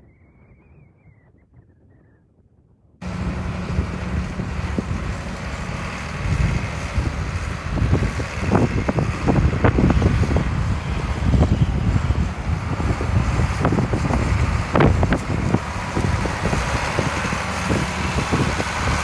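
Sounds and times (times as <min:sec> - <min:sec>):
wind buffeting microphone: 0:00.0 - 0:19.0
tractor diesel engine running: 0:03.0 - 0:19.0.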